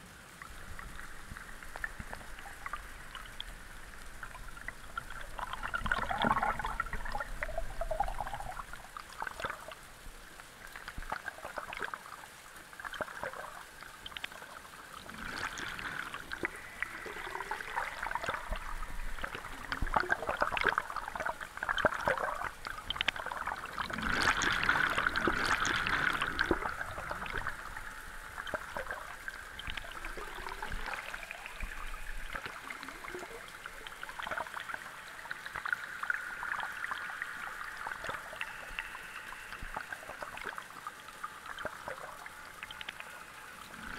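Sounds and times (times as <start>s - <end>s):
water trickling and splashing: 0.0s - 43.9s.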